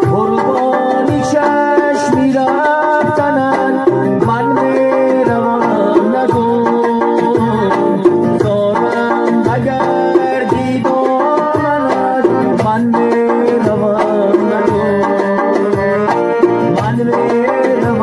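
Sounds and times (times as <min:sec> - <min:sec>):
electronic keyboard melody: 0:00.0 - 0:18.0
frame drum beat: 0:00.0 - 0:18.0.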